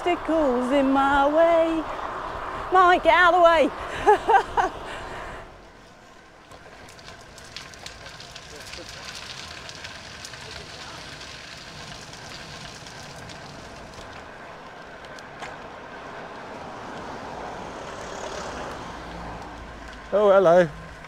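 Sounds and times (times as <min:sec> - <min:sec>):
bike tyres on tarmac: 0:00.0 - 0:21.0
car passing: 0:00.0 - 0:21.0.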